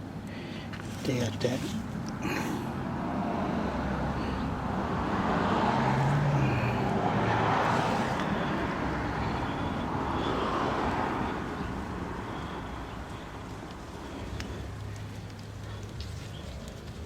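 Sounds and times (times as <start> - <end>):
vehicle passing by: 1.0 - 17.0.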